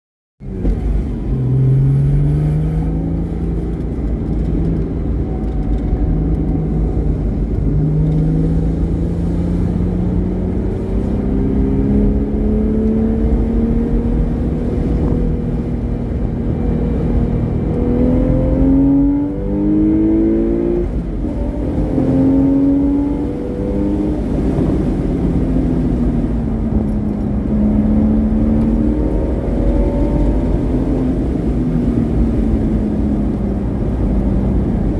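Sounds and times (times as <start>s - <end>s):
car engine revving: 0.4s - 34.9s
wind and road noise: 0.4s - 34.9s.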